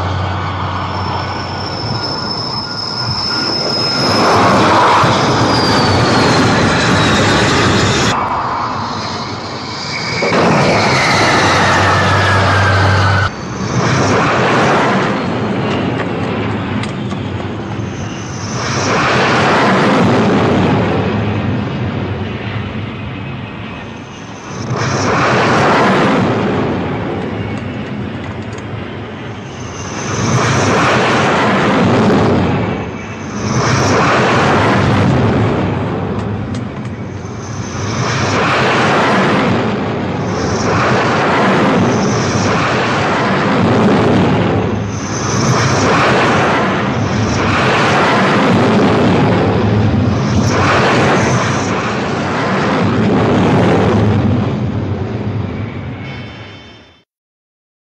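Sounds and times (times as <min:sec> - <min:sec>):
jet engines roaring: 0:00.0 - 0:56.8.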